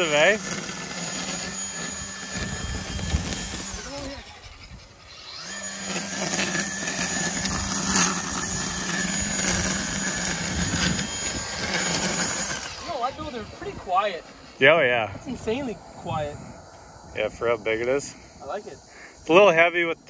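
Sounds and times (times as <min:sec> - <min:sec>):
trimmer line cutting grass: 0:00.0 - 0:16.3
string trimmer motor whine: 0:00.0 - 0:17.0.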